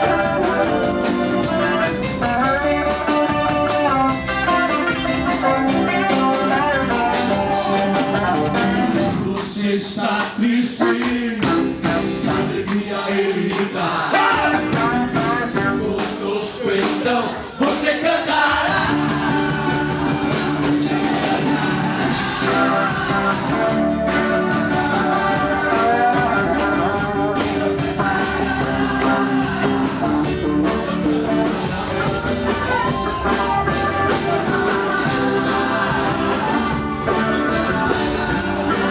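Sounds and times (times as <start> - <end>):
lead vocal singing: 0.0 - 38.9
rock band playing: 0.0 - 38.9.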